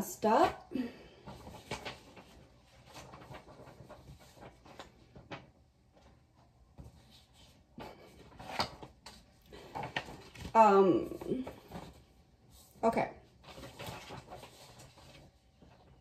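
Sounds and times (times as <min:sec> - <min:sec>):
paper sheets rustling: 0:00.8 - 0:16.0.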